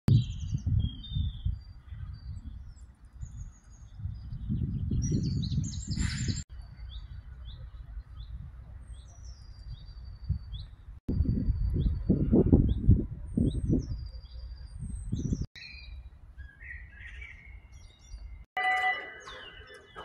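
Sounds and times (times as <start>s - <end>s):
wind buffeting microphone: 0.1s - 18.1s
small songbirds chirping: 0.1s - 20.0s.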